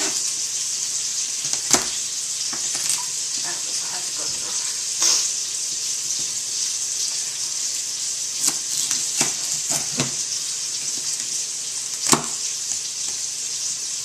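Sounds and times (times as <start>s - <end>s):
sausage sizzling in a pot: 0.0s - 14.0s.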